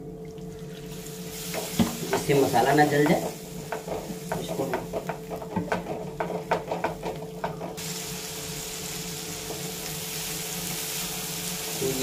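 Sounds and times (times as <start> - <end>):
food sizzling in oil: 0.6 - 12.0.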